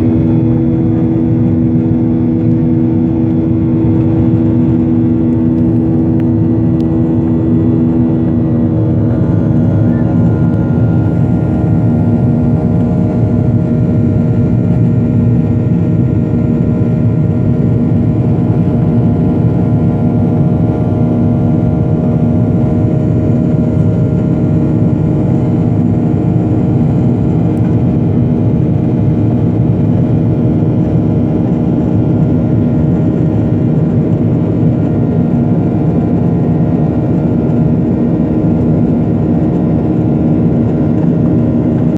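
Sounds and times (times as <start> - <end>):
jet engine cabin drone: 0.0 - 41.9.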